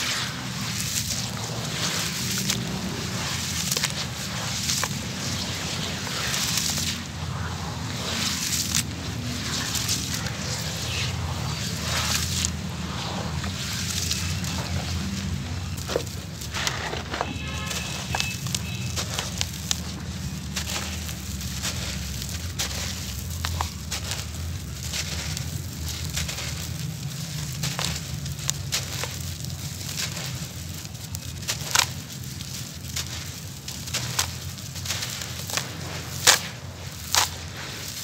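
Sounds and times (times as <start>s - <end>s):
dry grit pouring onto rubble: 0.0s - 38.0s.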